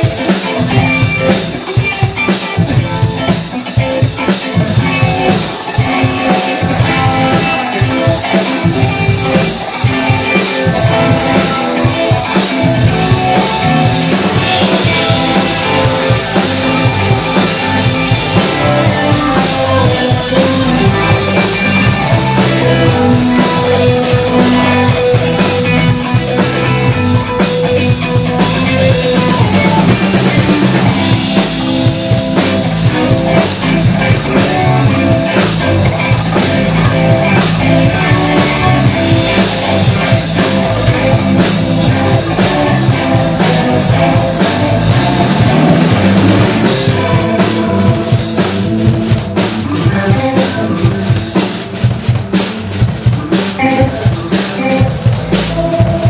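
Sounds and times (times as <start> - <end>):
drum kit: 0.0 - 56.0
electric bass: 0.0 - 56.0
electric guitars: 0.0 - 56.0.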